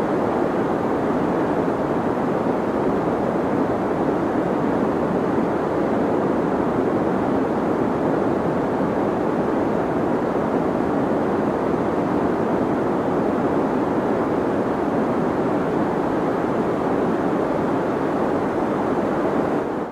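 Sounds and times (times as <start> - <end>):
deep white noise hiss: 0.0 - 19.9.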